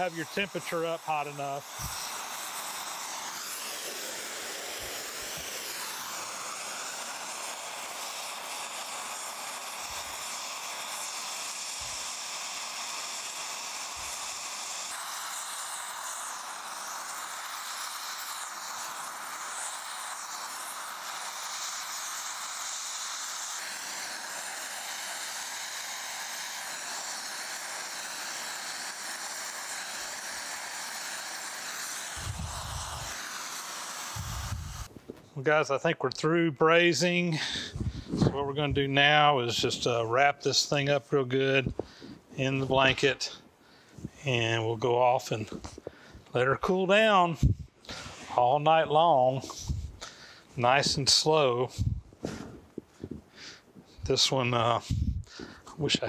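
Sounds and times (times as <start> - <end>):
torch flame hissing: 0.0 - 56.0.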